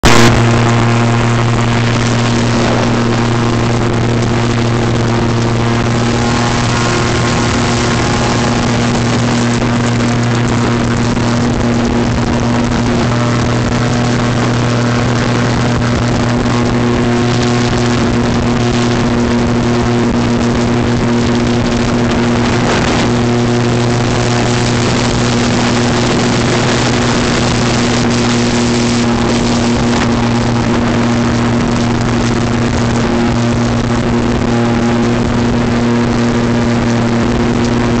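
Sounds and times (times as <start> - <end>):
airboat engine and propeller drone: 0.0 - 38.0.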